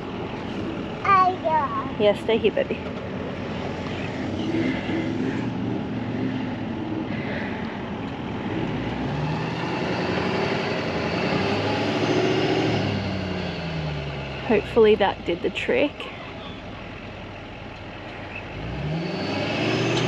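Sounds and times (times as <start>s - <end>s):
vehicle engine revving: 1.9s - 20.0s.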